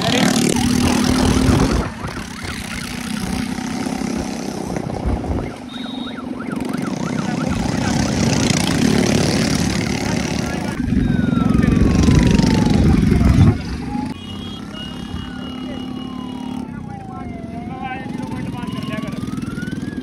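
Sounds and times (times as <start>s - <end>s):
motorcycle engines running: 0.0s - 20.0s
warbling siren-like tone: 0.0s - 20.0s.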